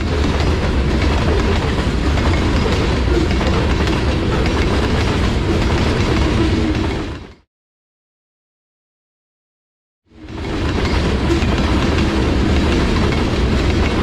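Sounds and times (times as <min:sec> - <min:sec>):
freight train rumbling past: 0:00.0 - 0:07.4, 0:10.1 - 0:14.0
wheels clattering over rail joints: 0:00.0 - 0:07.4, 0:10.2 - 0:14.0.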